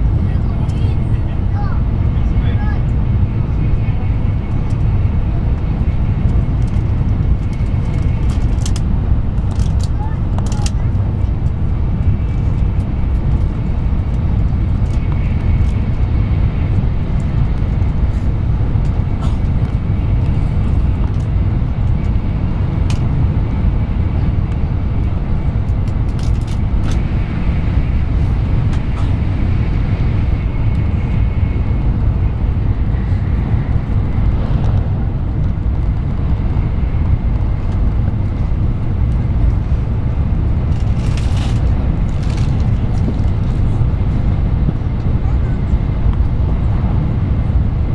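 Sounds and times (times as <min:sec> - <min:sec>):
train rumbling inside car: 0:00.0 - 0:47.9.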